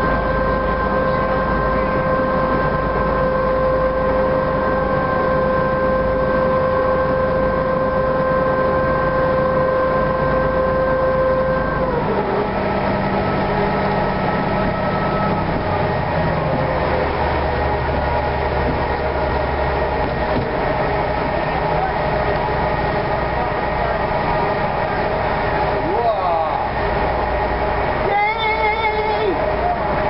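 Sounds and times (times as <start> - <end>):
ferry engines whining: 0.0 - 30.0
low engine hum: 0.0 - 30.0.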